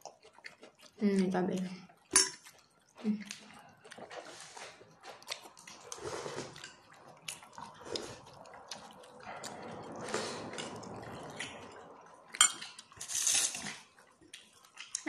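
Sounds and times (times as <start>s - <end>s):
chewing and mouth noises: 0.0s - 15.0s.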